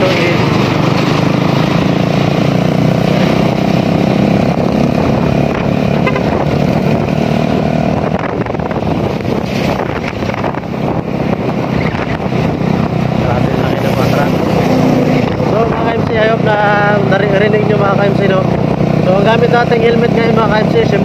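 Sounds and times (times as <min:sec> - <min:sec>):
wind on microphone: 0:00.0 - 0:17.0
motorcycle engine humming: 0:00.0 - 0:21.0.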